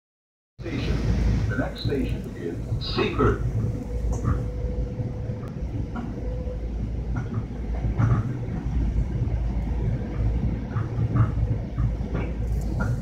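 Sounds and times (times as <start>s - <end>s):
train car rumbling along track: 0.6s - 13.0s.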